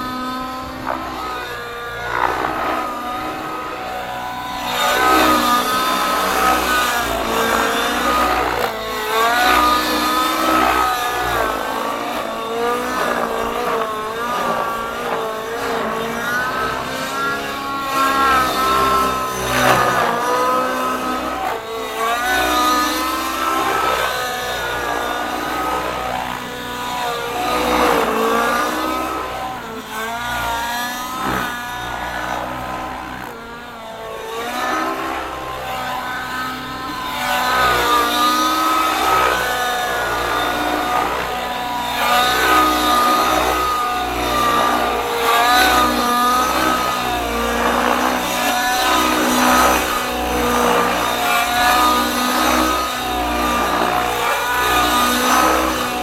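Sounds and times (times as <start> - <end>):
model helicopter engine whine: 0.0 - 56.0.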